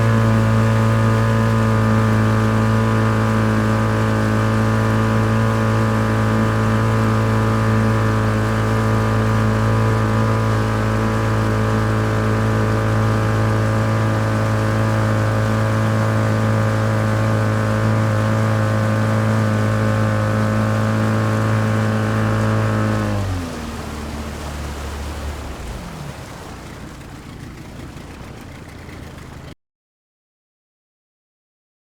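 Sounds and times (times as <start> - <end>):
outboard motor running: 0.0 - 29.6.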